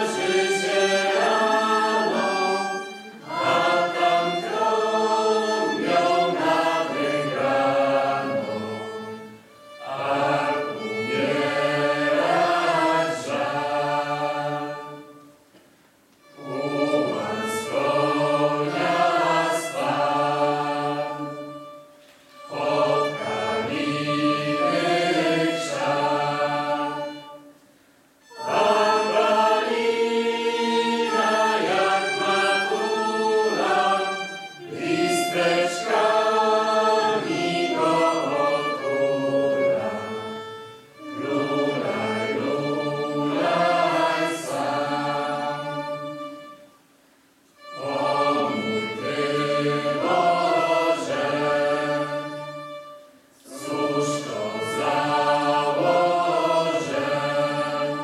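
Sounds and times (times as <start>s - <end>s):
mixed choir singing: 0.0s - 15.4s, 16.2s - 27.5s, 28.3s - 46.7s, 47.6s - 58.0s.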